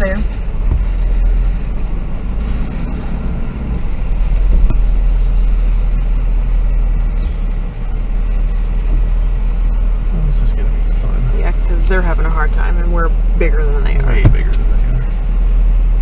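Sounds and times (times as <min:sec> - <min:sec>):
engine and road rumble in cab: 0:00.0 - 0:16.0.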